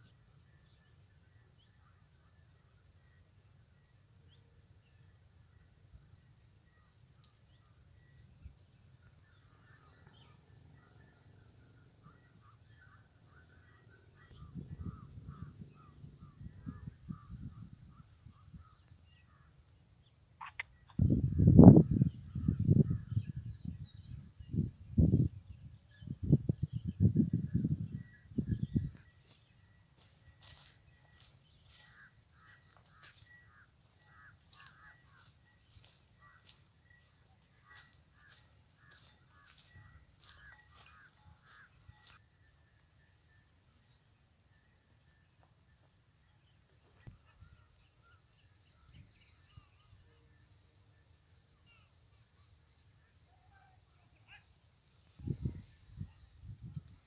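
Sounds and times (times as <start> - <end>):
birds calling: 0.0 - 21.1, 27.9 - 42.2, 45.3 - 56.8.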